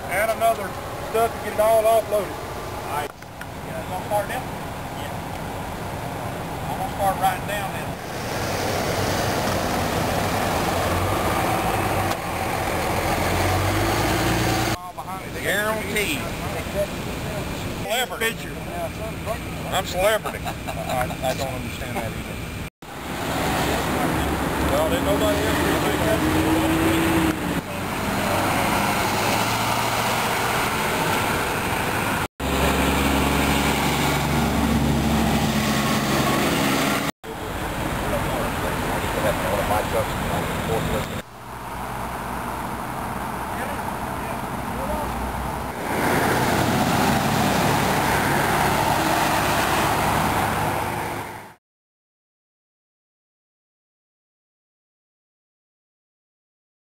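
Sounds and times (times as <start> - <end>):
roadside traffic noise: 0.0 - 51.6.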